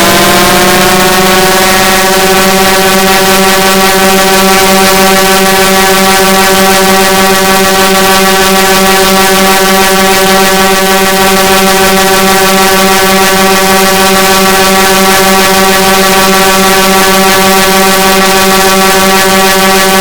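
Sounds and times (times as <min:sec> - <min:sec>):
buzzing alarm horn tone: 0:00.0 - 0:20.0.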